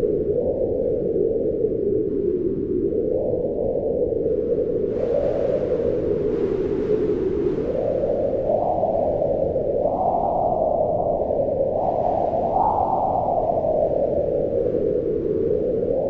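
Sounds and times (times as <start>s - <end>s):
howling wind gusts: 0.0s - 16.0s.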